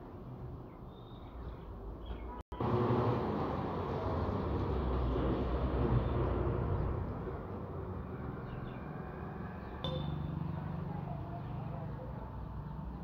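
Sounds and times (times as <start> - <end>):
vehicle passing: 2.6 - 13.0.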